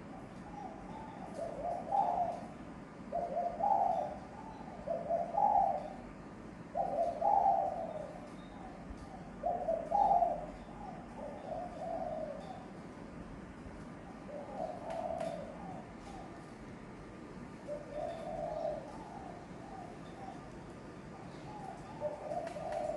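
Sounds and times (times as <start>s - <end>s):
dove cooing: 0.0s - 16.6s, 17.4s - 22.9s.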